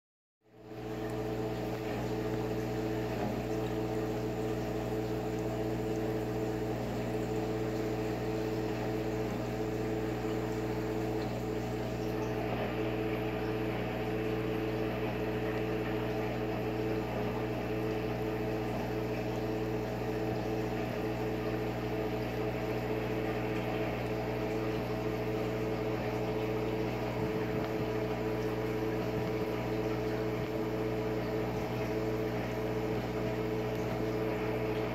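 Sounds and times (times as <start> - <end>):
air pump humming: 0.5 - 34.9
water bubbling: 0.6 - 34.9.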